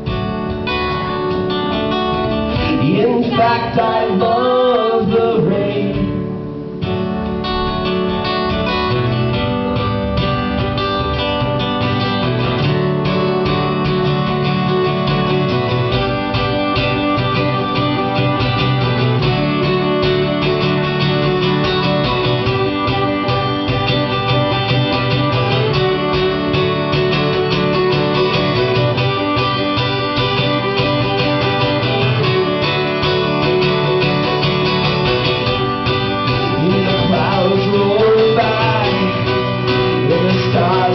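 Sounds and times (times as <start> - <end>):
strummed acoustic guitar: 0.0 - 40.9
fiddle playing: 6.6 - 40.9.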